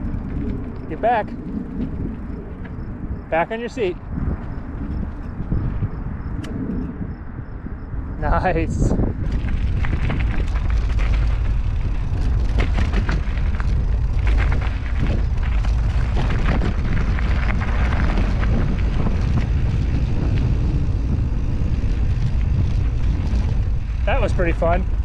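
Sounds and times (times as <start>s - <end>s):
bike rattling and clicking: 0.0s - 7.1s, 8.4s - 25.0s
wind on microphone: 0.0s - 25.0s.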